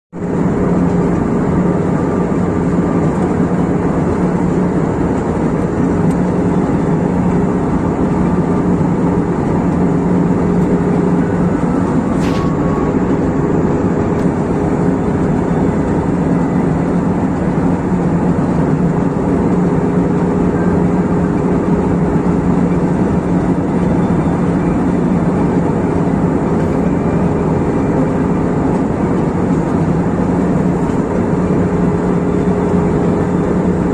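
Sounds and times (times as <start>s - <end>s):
airliner cabin engine drone: 0.2s - 33.9s.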